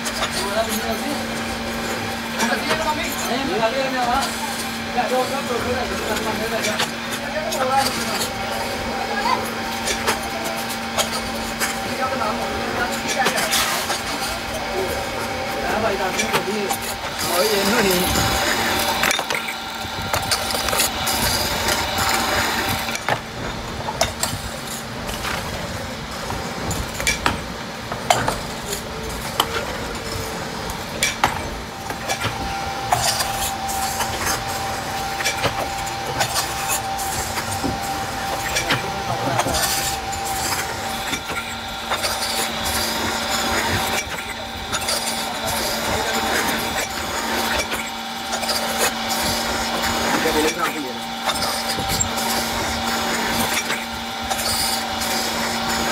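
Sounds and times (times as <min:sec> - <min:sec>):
seaming machine humming: 0:00.0 - 0:55.9.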